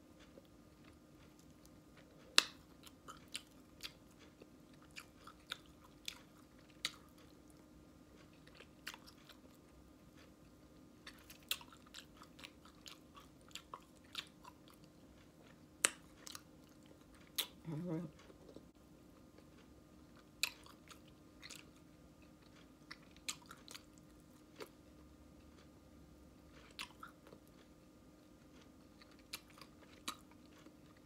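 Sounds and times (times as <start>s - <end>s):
person chewing ribs: 0.2s - 31.0s.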